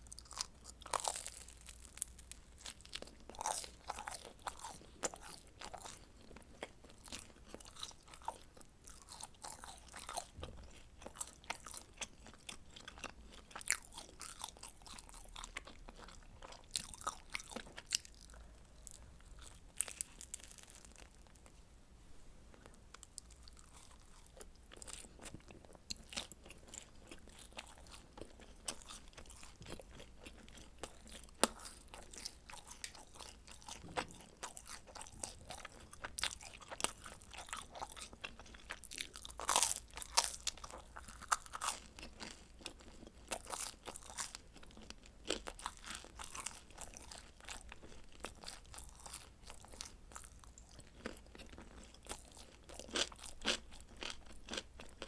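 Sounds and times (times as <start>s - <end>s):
chewing crunchy pizza: 0.0s - 21.6s, 22.5s - 55.0s.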